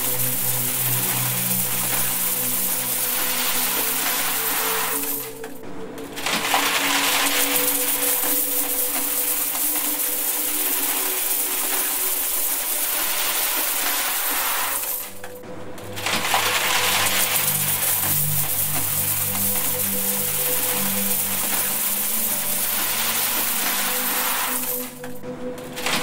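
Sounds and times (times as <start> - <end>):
coins pouring into metal box: 0.0 - 5.4, 6.2 - 15.2, 16.2 - 25.1.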